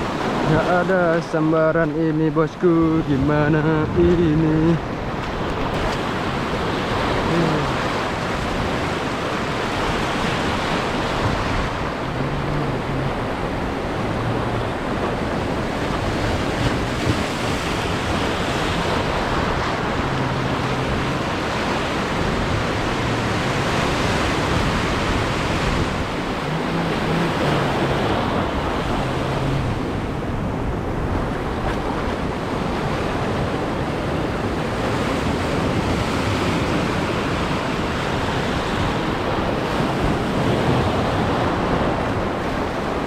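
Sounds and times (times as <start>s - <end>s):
surf washing over reef: 0.0s - 43.0s
wind buffeting microphone: 0.0s - 43.0s.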